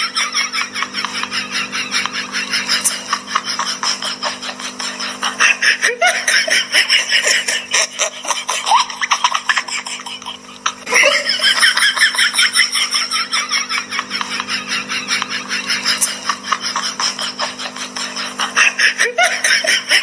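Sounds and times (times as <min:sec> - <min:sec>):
hearty laughter: 0:00.0 - 0:20.0.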